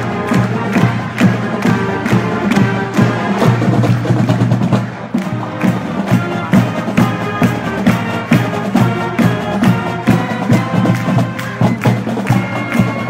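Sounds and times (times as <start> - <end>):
marching drums beating: 0.0 - 13.0
wind instruments holding notes: 0.0 - 13.0.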